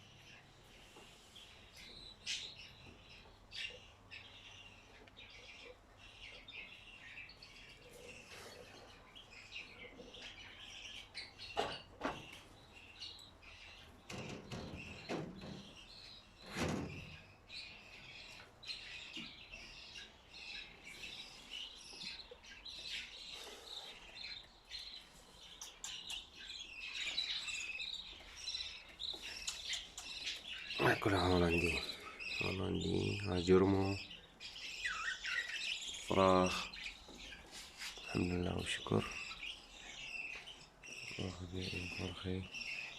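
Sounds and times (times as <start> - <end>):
cage birds chirping: 0.0 - 42.9.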